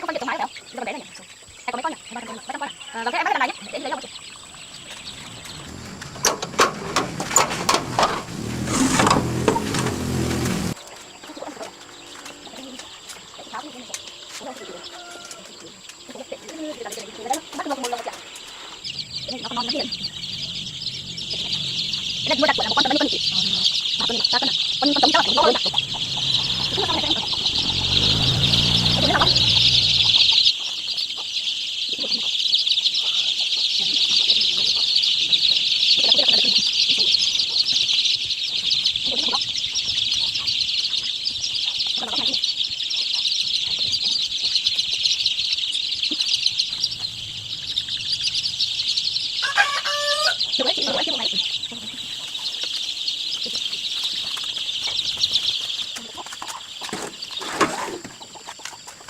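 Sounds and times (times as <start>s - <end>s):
chicks peeping: 10.4s - 59.0s.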